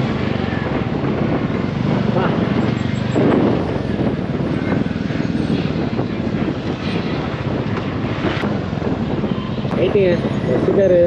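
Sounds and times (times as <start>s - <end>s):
motorcycle engine cruising: 0.0s - 11.0s
wind on microphone: 0.0s - 11.0s.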